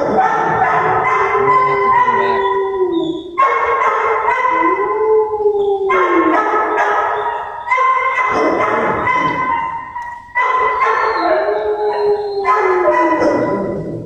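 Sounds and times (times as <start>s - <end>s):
dogs howling: 0.0s - 14.0s.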